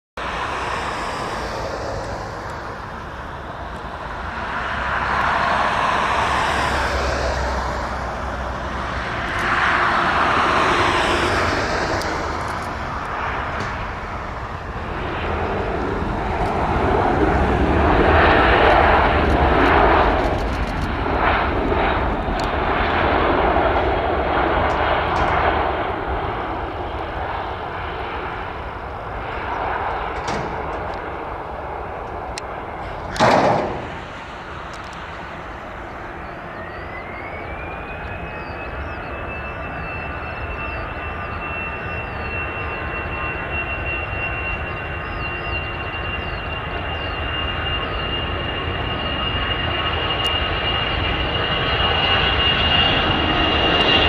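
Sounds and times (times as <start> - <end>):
jet engines of landing airliner: 0.2 - 54.0.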